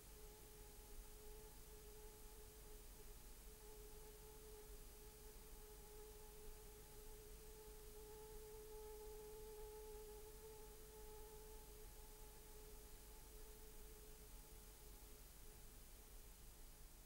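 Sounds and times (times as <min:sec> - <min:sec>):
faint steady tone: 0:00.0 - 0:17.0
tape hiss: 0:00.0 - 0:17.0.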